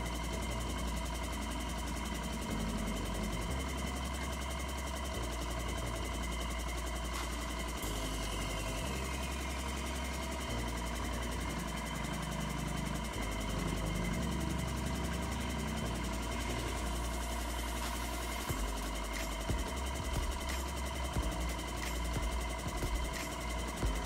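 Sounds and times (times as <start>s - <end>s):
tire changer machine humming: 0.0s - 24.0s.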